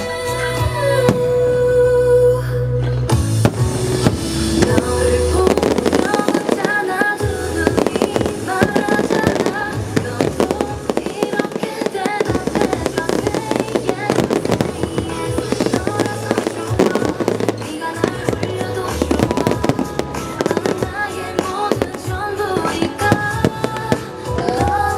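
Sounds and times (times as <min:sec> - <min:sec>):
loud music: 0:00.0 - 0:24.9
fireworks bursting and crackling: 0:03.1 - 0:24.9.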